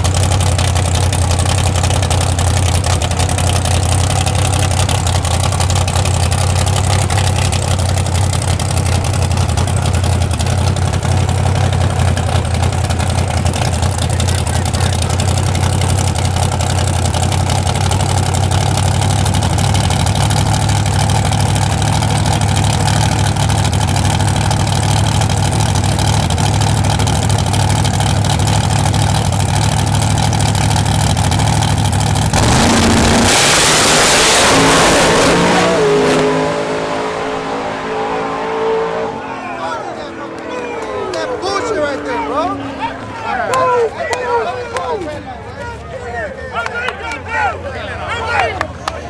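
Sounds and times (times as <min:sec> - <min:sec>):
full-throttle truck launch: 0:00.0 - 0:45.5
truck engines running: 0:00.0 - 0:49.0.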